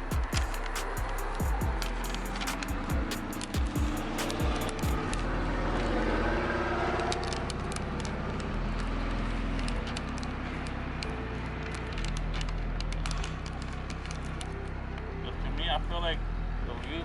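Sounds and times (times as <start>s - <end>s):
motor vehicle engine running: 0.0s - 17.0s.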